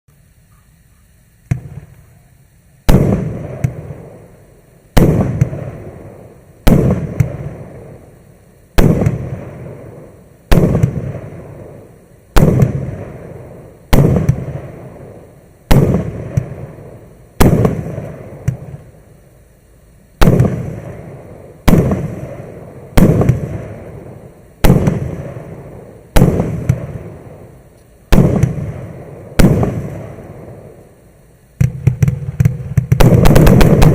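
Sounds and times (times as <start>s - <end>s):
firework bangs: 1.4s - 2.2s, 2.8s - 19.0s, 20.1s - 33.9s.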